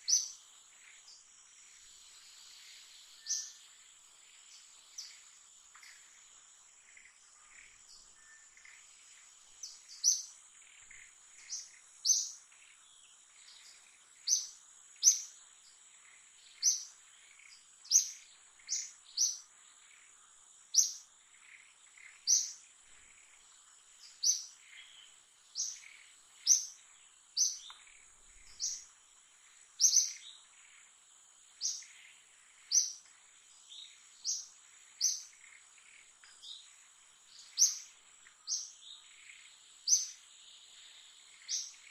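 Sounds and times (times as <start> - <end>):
bird chirping: 0.0 - 6.2, 6.8 - 41.9.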